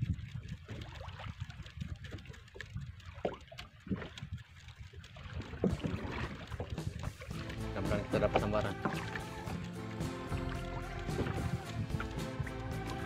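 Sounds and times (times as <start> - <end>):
water lapping against boat hull: 0.0 - 13.0
wind rumble on microphone: 0.0 - 13.0.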